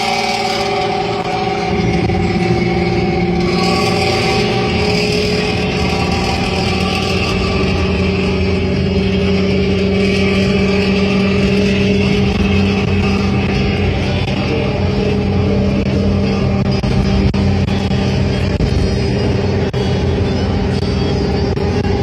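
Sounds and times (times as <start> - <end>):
engine with loud snoring exhaust: 0.0 - 22.0.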